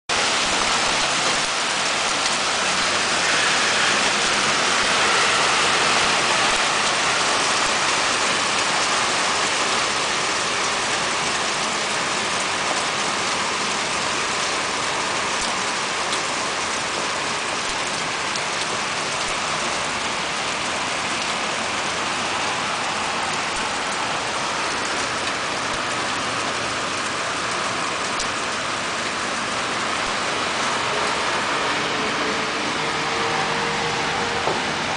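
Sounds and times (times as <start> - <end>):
hail and heavy rain pelting: 0.1 - 34.9.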